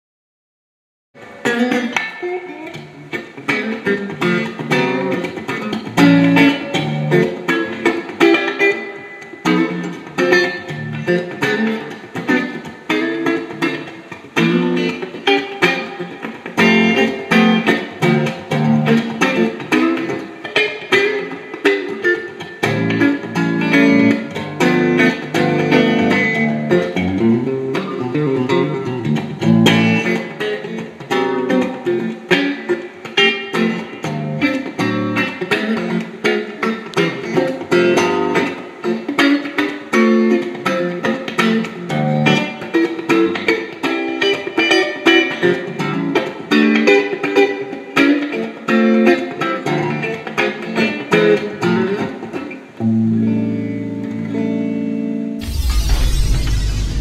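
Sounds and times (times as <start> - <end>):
electric guitar picked notes and chords: 1.2 - 57.0.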